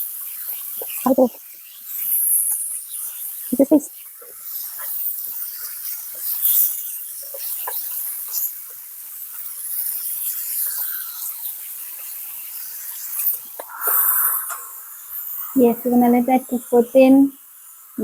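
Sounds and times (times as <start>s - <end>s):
meat sizzling on a grill: 0.0s - 18.0s.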